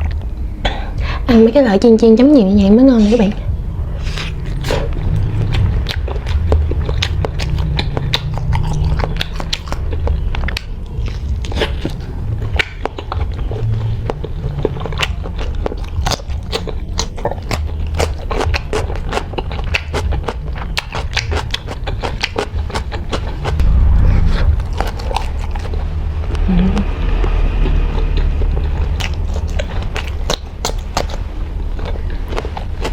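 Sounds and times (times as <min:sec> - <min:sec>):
steady low hum: 0:00.0 - 0:32.9
chewing and biting fried sausage: 0:03.7 - 0:23.6, 0:24.3 - 0:26.0, 0:26.8 - 0:32.9.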